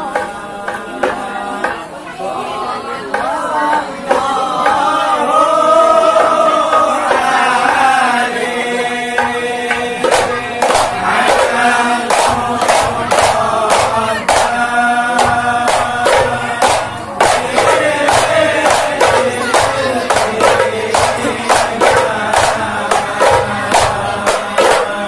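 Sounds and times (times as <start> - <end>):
frame drums struck by hand: 0.0 - 2.0, 3.1 - 25.0
men chanting in unison: 0.0 - 25.0.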